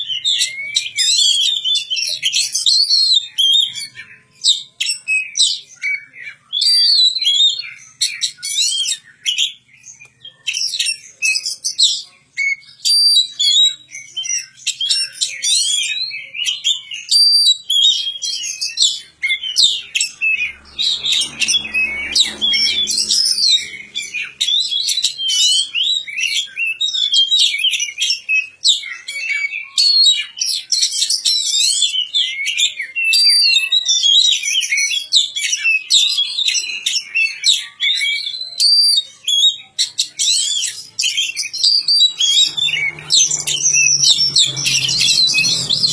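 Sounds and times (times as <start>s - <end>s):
bird singing varied song: 0.0s - 45.9s.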